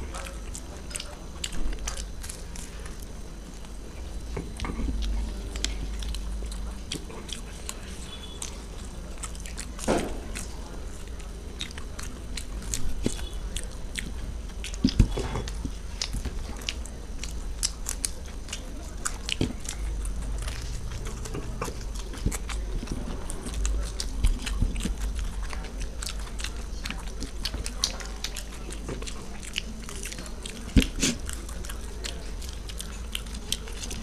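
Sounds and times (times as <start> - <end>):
crisp pastry crunching: 0.0 - 34.0
wet chewing: 0.0 - 34.0.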